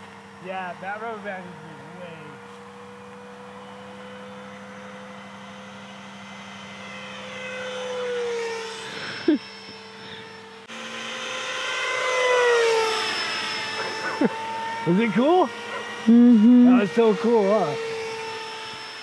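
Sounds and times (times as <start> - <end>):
model jet motor whining overhead: 0.0 - 19.0.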